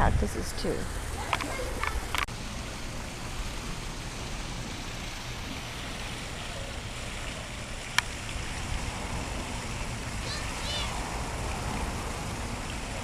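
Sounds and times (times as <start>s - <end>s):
waterfall rushing and splashing: 1.0s - 13.0s.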